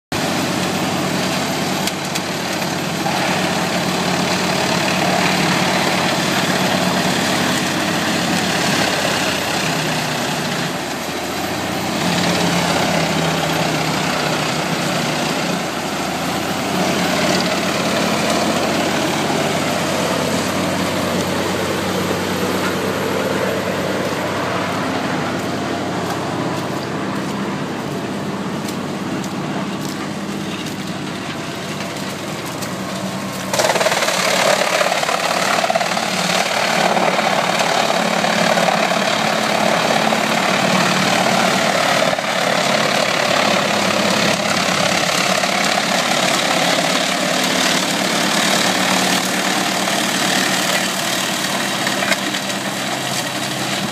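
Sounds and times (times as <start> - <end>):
tractor engine: 0.1 - 53.9
wood chipper chipping timber: 0.1 - 53.9.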